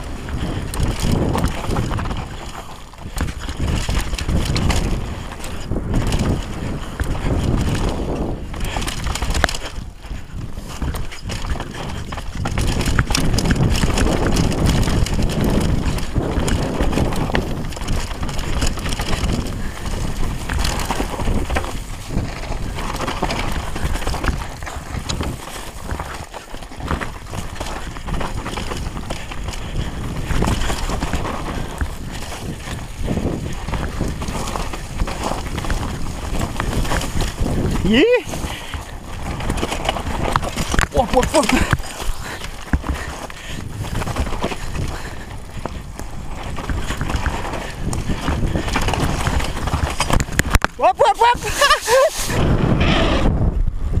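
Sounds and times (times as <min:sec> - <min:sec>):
tyres rolling over dirt: 0:00.0 - 0:53.2
bike rattling: 0:00.0 - 0:54.0
wind buffeting microphone: 0:00.0 - 0:54.0.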